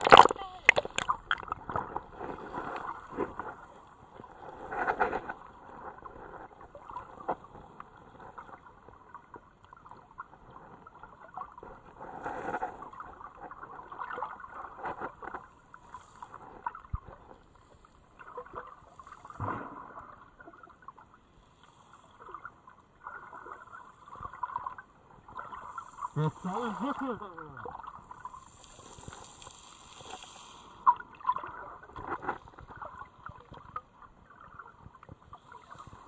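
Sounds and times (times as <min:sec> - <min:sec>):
underwater water sloshing and gurgling: 0:00.0 - 0:36.0.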